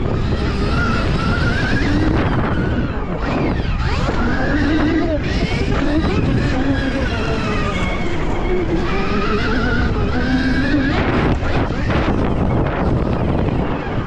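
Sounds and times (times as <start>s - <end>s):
electric motorbike motors whining: 0.0s - 14.0s
wind noise: 0.0s - 14.0s.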